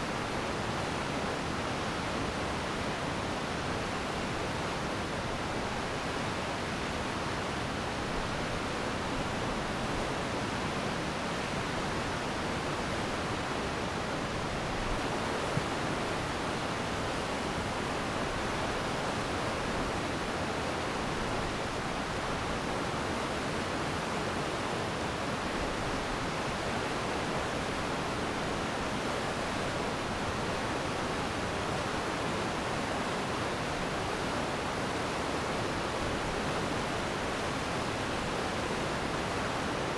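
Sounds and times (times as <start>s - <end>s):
stream water rushing: 6.2s - 39.9s.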